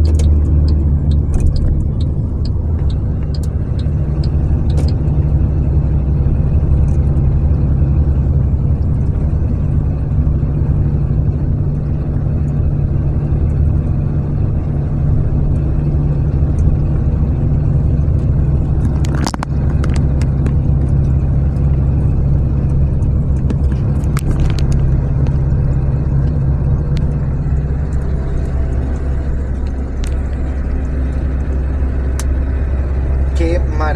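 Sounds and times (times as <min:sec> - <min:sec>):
moving vehicle rumble: 0:00.0 - 0:33.9.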